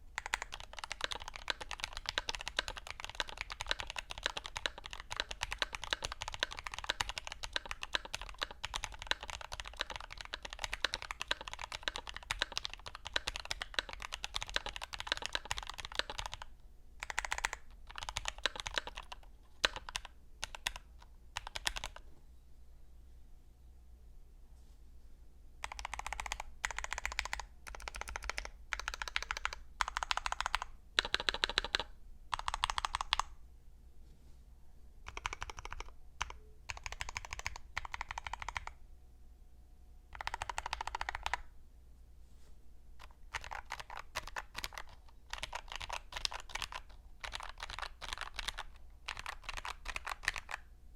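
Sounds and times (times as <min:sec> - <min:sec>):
mechanical keyboard typing: 0:00.2 - 0:22.0, 0:25.6 - 0:33.3, 0:35.1 - 0:38.7, 0:40.1 - 0:41.5, 0:43.0 - 0:50.6.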